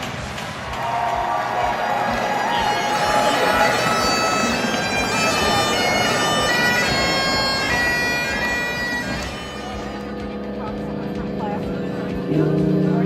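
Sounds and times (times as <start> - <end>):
crowd noise: 0.0 - 13.0
bagpipes playing: 1.5 - 13.0.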